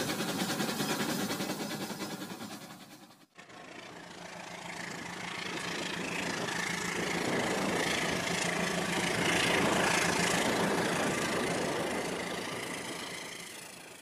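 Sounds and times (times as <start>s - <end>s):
rattle of wheels and wagons: 0.0s - 14.0s.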